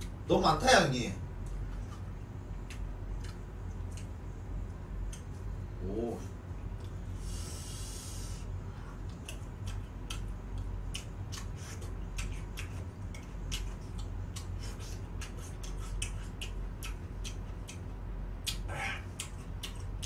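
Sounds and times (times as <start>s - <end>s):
steady low hum: 0.0s - 20.0s
crunchy chewing: 1.4s - 5.5s, 6.6s - 20.0s.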